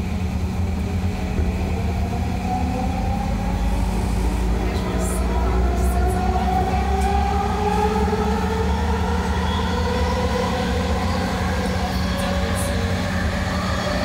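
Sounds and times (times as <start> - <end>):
train rumble from inside: 0.0 - 14.0.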